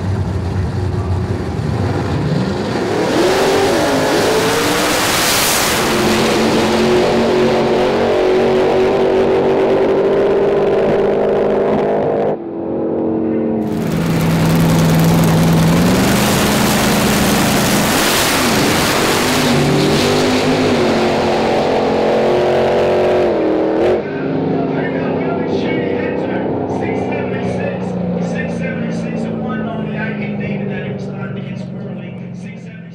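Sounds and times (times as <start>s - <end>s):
drag car engines roaring: 0.0s - 32.9s.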